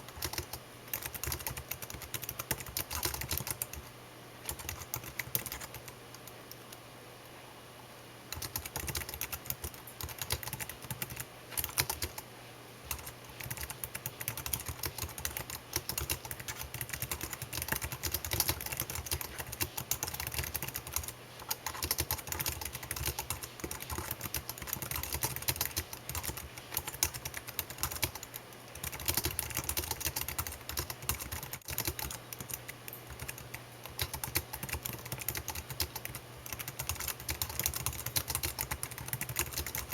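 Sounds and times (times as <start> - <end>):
typing on computer keyboard: 0.0 - 3.9, 4.5 - 6.7, 8.3 - 12.2, 12.9 - 39.9.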